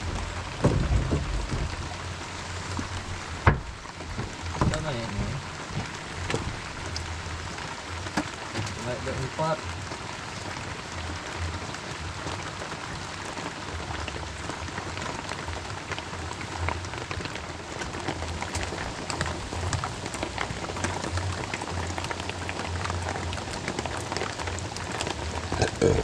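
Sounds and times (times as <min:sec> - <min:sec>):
low uneven rumble: 0:00.0 - 0:13.0, 0:13.7 - 0:26.0
heavy rain: 0:00.0 - 0:26.0
raindrops ticking close by: 0:00.0 - 0:26.0.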